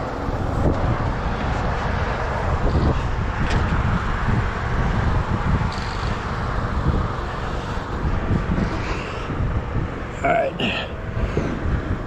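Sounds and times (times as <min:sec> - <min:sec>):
road traffic: 0:00.0 - 0:12.0
wind on microphone: 0:00.0 - 0:12.0.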